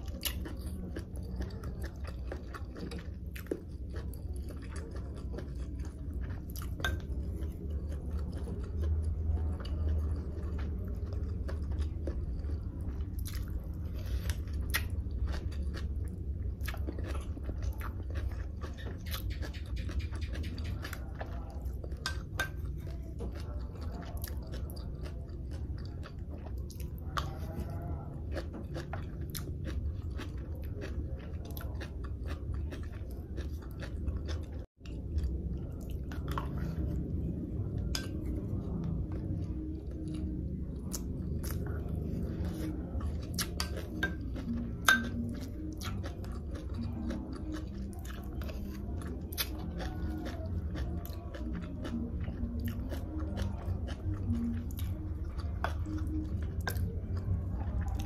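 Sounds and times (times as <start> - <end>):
wet chewing with crisp pops: 0.0 - 58.0.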